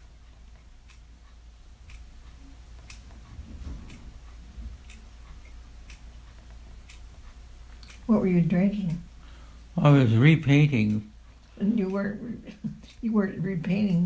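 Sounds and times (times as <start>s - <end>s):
faint even ticking: 0.0s - 14.0s
low steady hum: 0.0s - 14.0s.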